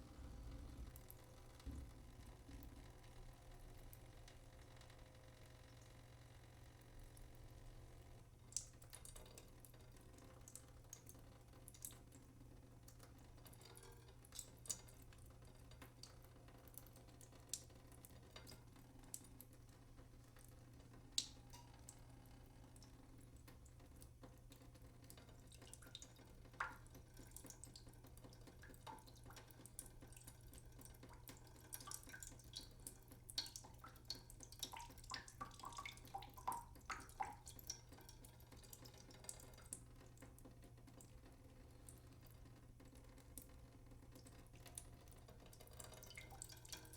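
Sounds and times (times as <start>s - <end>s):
water dripping: 6.9s - 22.0s, 22.7s - 46.9s.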